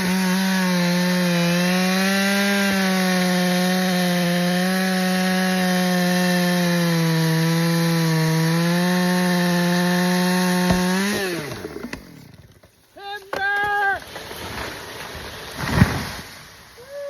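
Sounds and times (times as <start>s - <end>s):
chainsaw cutting wood: 0.0s - 16.4s.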